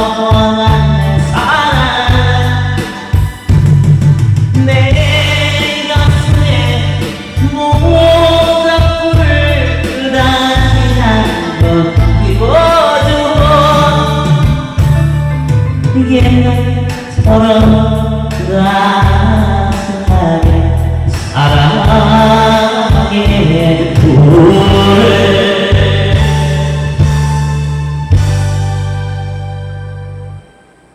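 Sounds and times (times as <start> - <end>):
person singing pop song: 0.0 - 28.4
backing music with pulsing bass: 0.0 - 30.9.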